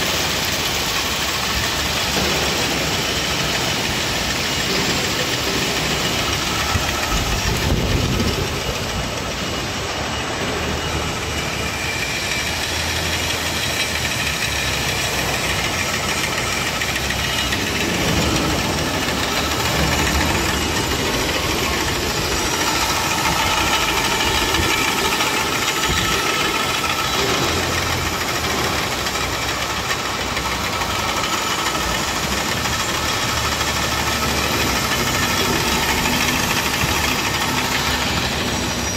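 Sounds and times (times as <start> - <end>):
braiding machine whirring: 0.0 - 38.9.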